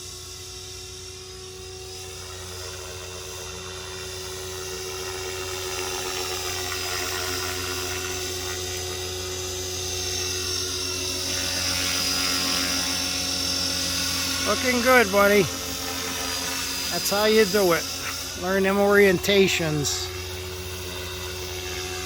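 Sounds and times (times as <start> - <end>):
rc helicopter motor whine: 0.0 - 22.0.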